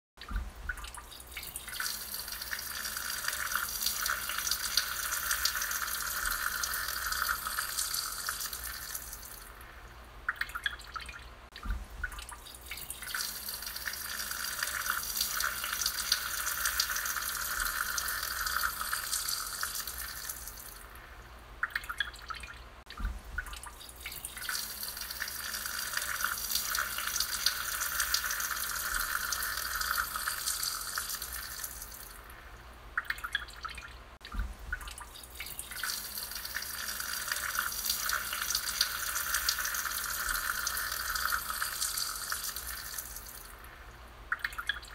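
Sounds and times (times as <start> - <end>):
dribbles and drips: 0.2 - 44.9.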